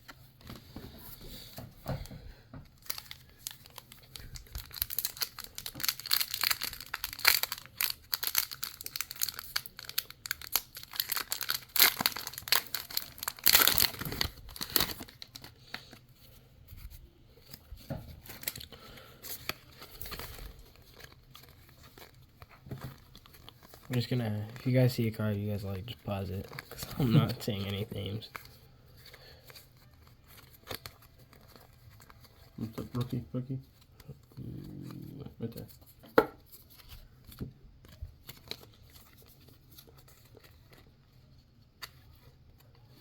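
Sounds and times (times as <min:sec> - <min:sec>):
plastic wrapper tearing and crinkling: 0:02.8 - 0:16.0, 0:17.4 - 0:28.6, 0:29.4 - 0:33.2, 0:36.5 - 0:43.0.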